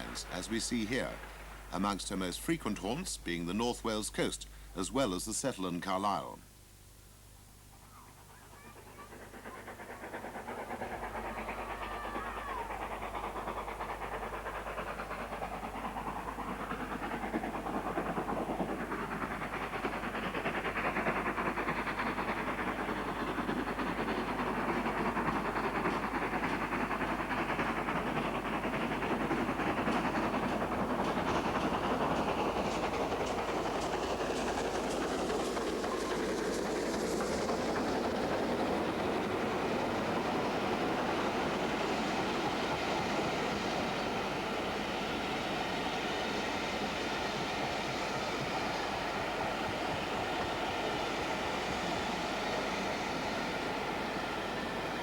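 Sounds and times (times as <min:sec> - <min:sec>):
steam locomotive running: 0:00.0 - 0:06.5, 0:07.7 - 0:55.0.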